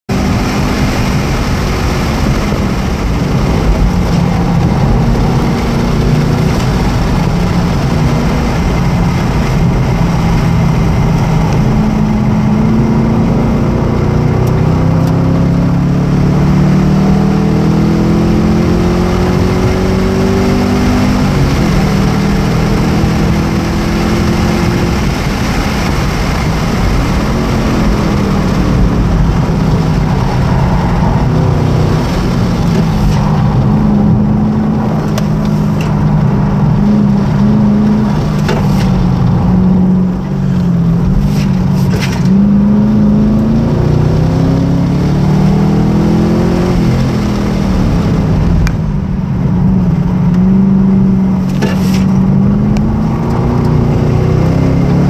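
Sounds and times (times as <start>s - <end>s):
car engine revving: 0.0s - 55.0s
wind and tyre noise: 0.0s - 55.0s.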